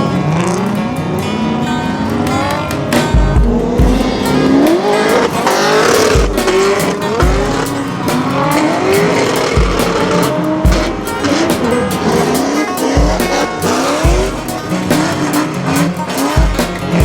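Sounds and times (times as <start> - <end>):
car engines revving: 0.0 - 17.0
tires squealing: 0.0 - 17.0
music with heavy bass beat: 2.5 - 17.0.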